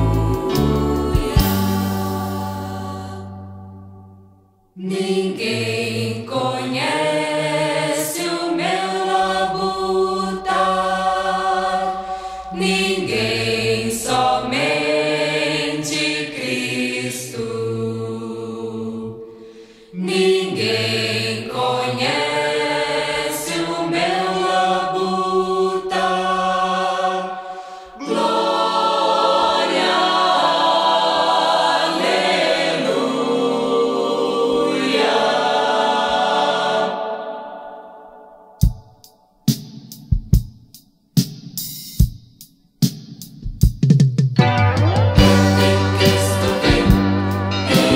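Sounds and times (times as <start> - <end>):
choir singing a hymn: 0.0 - 4.0, 4.8 - 38.6, 45.2 - 47.9.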